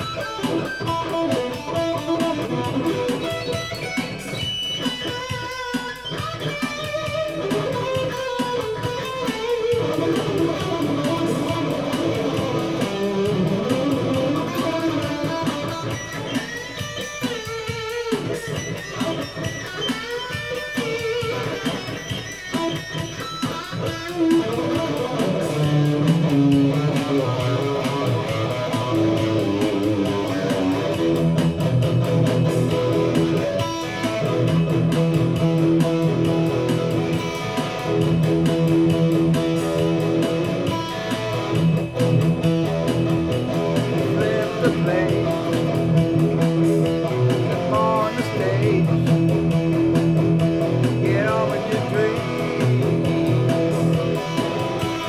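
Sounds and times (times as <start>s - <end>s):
drum machine beat: 0.0s - 55.0s
electric guitar playing: 0.0s - 55.0s.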